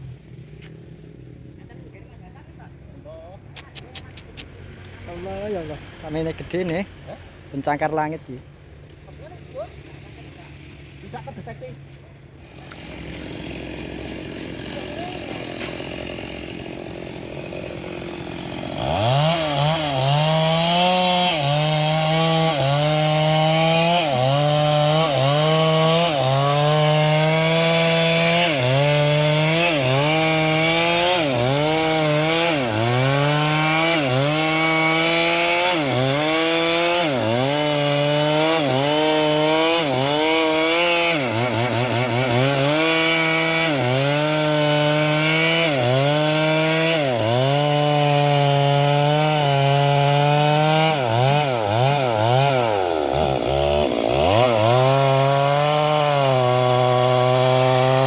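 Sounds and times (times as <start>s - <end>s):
chainsaw cutting into trunk: 11.2s - 58.0s.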